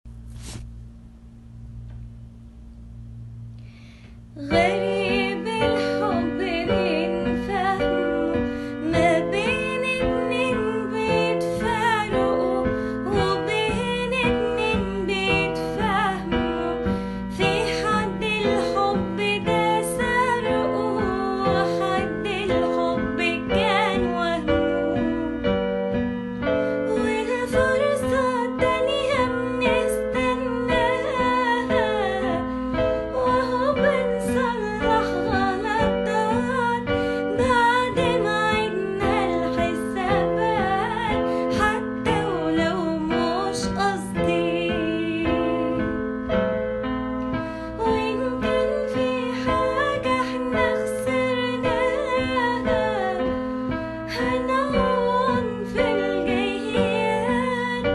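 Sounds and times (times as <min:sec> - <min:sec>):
woman singing with vibrato: 0:04.4 - 0:25.6, 0:26.6 - 0:46.1, 0:47.6 - 0:57.9.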